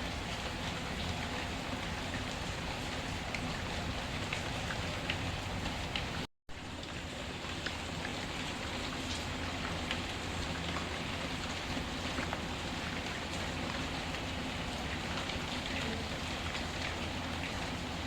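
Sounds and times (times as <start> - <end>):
faint wood fire crackles: 0.0 - 18.0
steady rain: 0.0 - 18.0.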